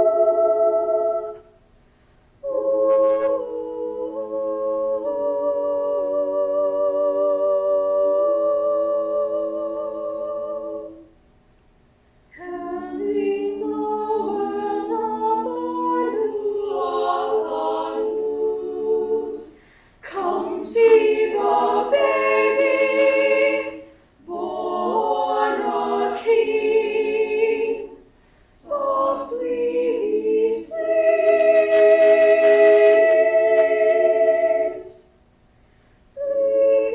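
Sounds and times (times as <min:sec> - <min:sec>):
choir singing a cappella: 0:00.0 - 0:01.6, 0:02.4 - 0:11.1, 0:12.3 - 0:35.2, 0:36.0 - 0:36.9.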